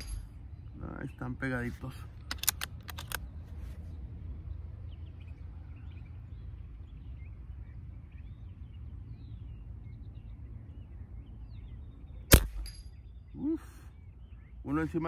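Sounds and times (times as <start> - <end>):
birds chirping faintly: 0.0 - 15.0
low outdoor rumble: 0.0 - 15.0.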